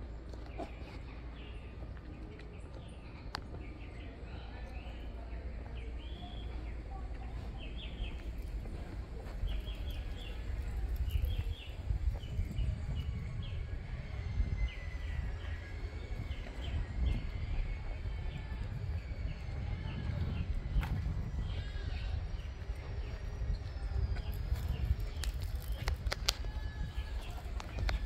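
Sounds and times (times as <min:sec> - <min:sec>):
small birds chirping: 0:00.0 - 0:13.9, 0:14.6 - 0:28.0
steady low rumble: 0:00.0 - 0:28.0.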